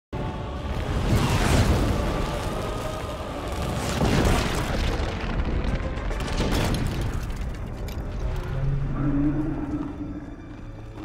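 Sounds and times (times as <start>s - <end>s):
music: 0.1s - 11.0s.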